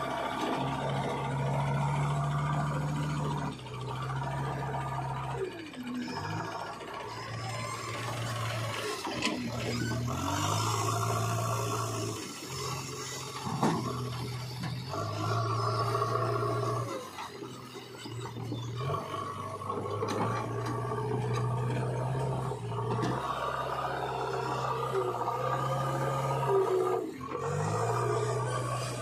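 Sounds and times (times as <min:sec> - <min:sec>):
diesel engine under hydraulic load: 0:00.0 - 0:29.0.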